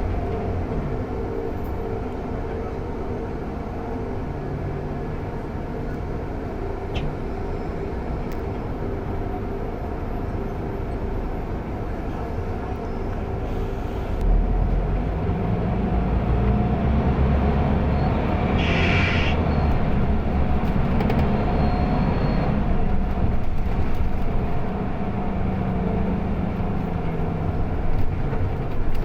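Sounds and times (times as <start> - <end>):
bus engine rumbling: 0.0 - 29.0.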